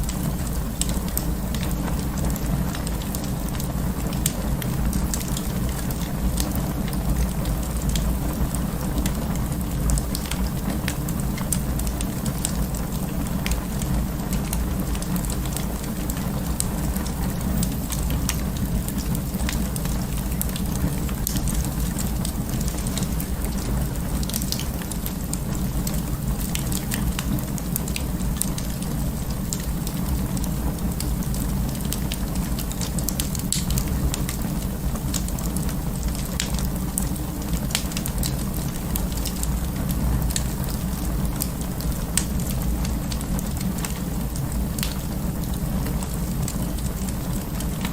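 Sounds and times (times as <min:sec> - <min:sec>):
fire popping: 0:00.0 - 0:47.9
low rumble of flames: 0:00.0 - 0:47.9
wood fire crackling: 0:00.0 - 0:47.9.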